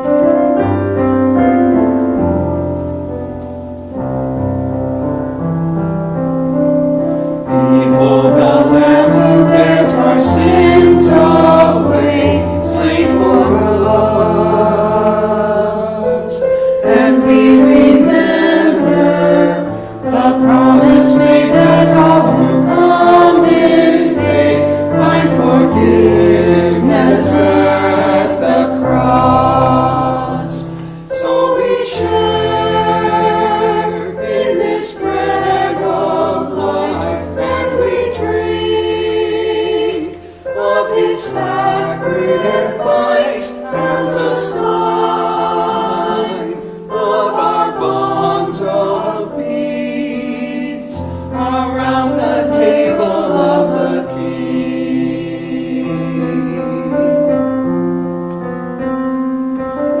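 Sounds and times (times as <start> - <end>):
sustained accompaniment: 0.0 - 60.0
choir singing: 6.5 - 57.8.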